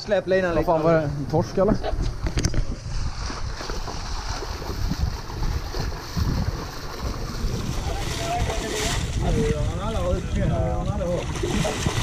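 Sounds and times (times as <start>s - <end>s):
wind buffeting microphone: 0.5s - 12.0s.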